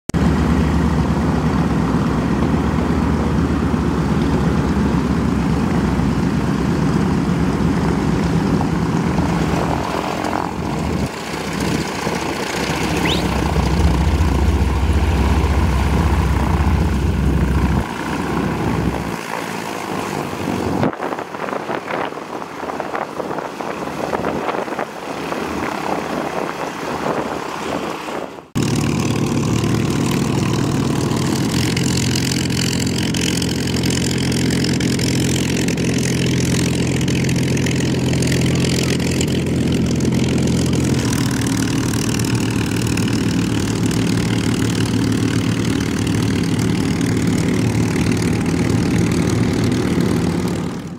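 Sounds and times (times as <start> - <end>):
propeller plane engines droning: 0.2 - 27.8, 28.6 - 50.9.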